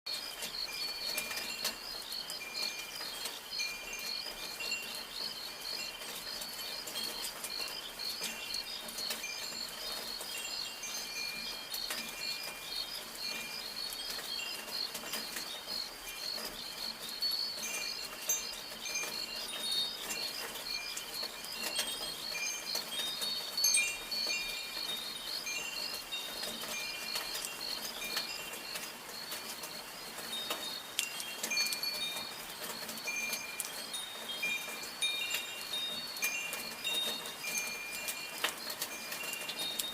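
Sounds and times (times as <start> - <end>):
wind chimes ringing: 0.1 - 39.9.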